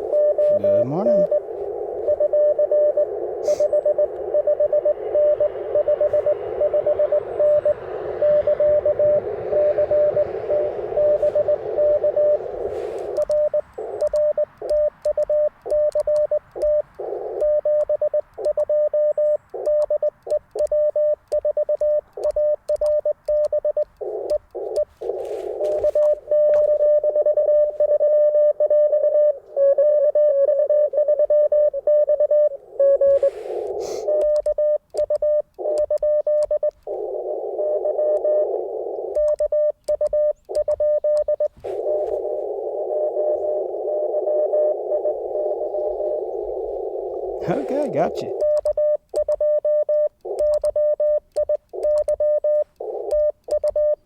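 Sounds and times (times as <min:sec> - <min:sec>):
morse code tones: 0:00.0 - 0:54.0
receiver hiss: 0:00.0 - 0:54.0.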